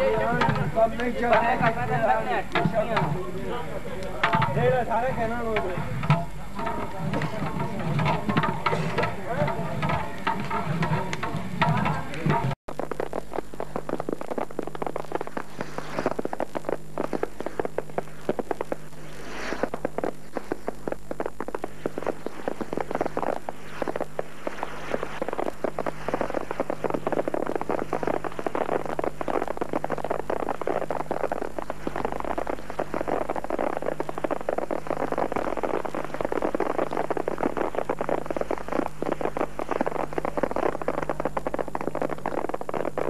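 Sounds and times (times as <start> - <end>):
fireworks crackling: 0.0 - 43.0.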